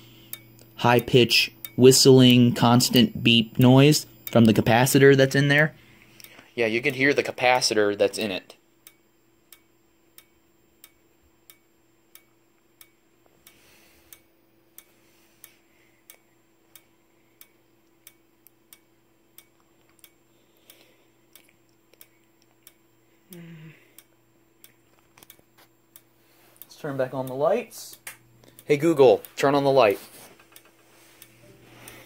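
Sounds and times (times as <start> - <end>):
strobe ticking: 0.0 - 32.0.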